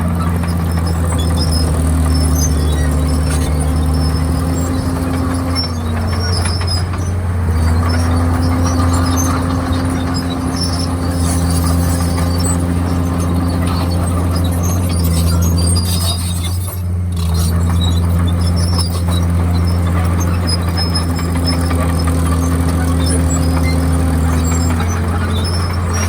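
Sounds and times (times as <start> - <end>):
bulldozer diesel engine running: 0.0 - 26.0
short high squeaks: 0.0 - 26.0.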